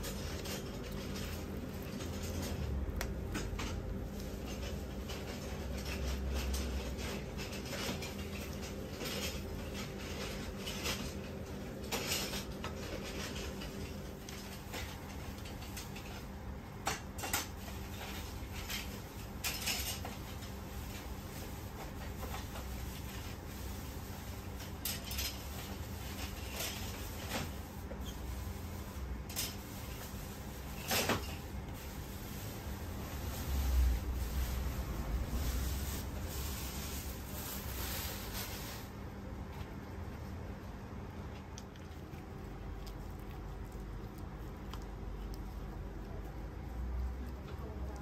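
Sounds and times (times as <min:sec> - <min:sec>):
soft handling of wrappers: 0:00.0 - 0:48.0
steady low hum: 0:00.0 - 0:48.0.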